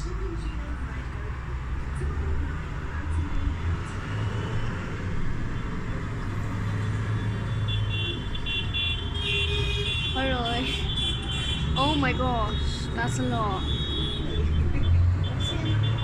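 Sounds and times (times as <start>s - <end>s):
tractor engines droning: 0.0s - 16.0s.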